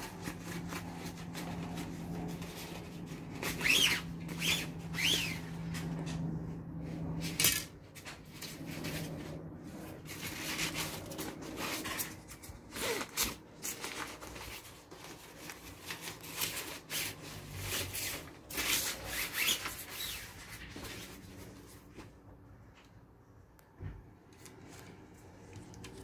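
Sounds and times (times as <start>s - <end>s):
rustling handling noise: 0.0s - 23.3s.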